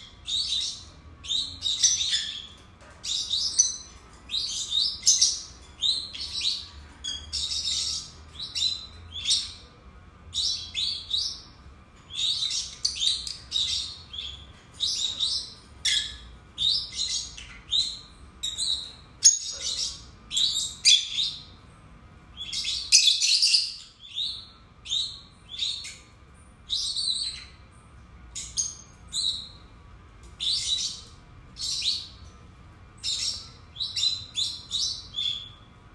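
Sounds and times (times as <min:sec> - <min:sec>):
birds chirping shrilly: 0:00.0 - 0:21.7, 0:22.3 - 0:29.7, 0:30.3 - 0:35.8.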